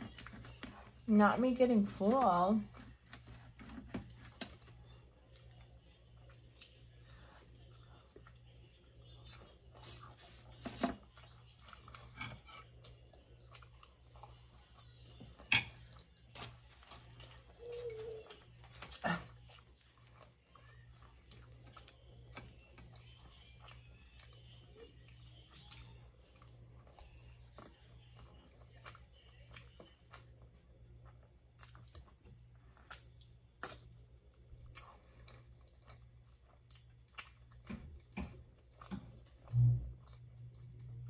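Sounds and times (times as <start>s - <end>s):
person chewing food: 0.0s - 1.1s, 2.6s - 41.0s
faint low hum: 0.0s - 41.0s.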